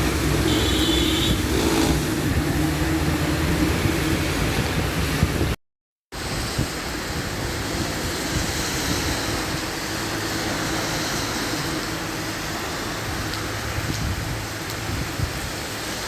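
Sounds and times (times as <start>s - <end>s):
heavy rain: 0.0s - 5.6s, 6.2s - 16.0s.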